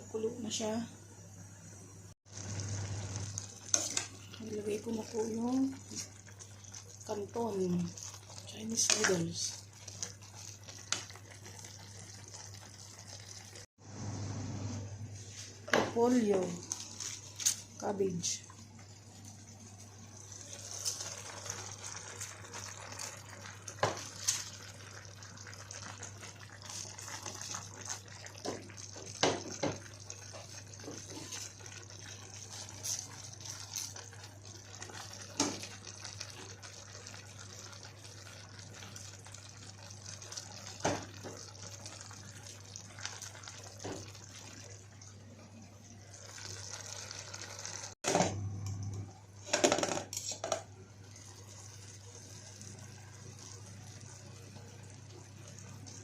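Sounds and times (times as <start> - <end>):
pot of water boiling: 0.0 - 56.0.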